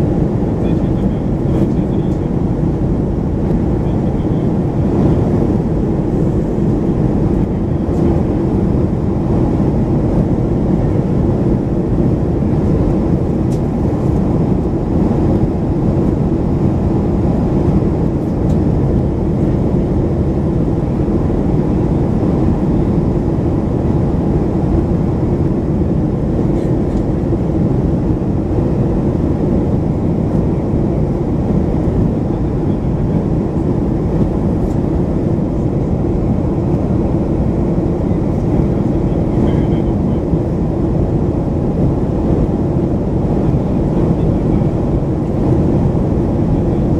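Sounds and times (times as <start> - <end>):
airplane cabin engine roar: 0.0 - 46.9.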